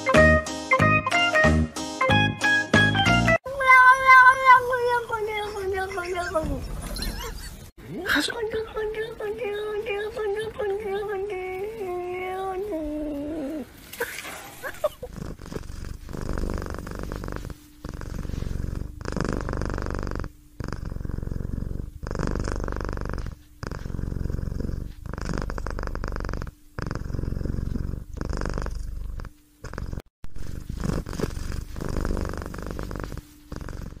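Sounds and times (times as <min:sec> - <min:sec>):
cat purring: 0:03.9 - 0:13.8, 0:14.6 - 0:34.0.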